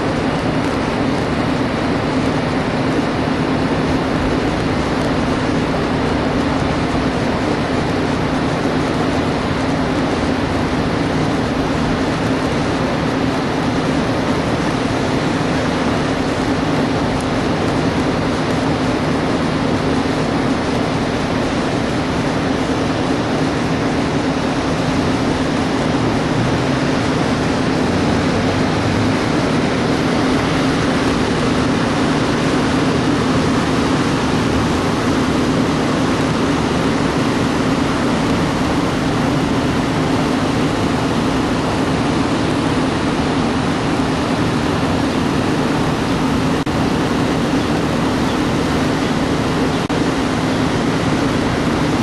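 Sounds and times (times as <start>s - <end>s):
vehicle road and engine noise: 0.0s - 52.0s.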